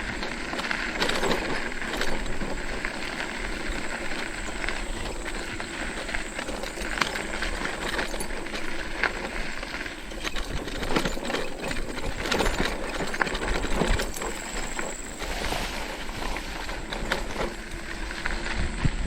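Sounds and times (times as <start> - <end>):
bike knocks and rattles: 0.0 - 19.0
e-bike running noise: 0.0 - 19.0.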